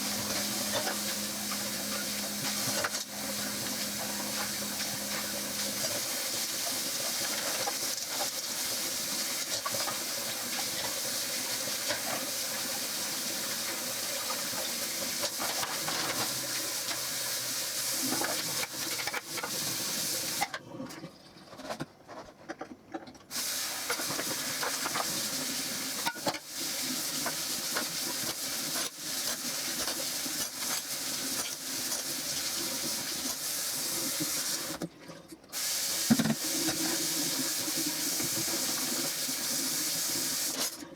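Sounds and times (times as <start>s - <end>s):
tap water running into sink: 0.0s - 20.4s, 23.4s - 34.9s, 35.6s - 40.7s.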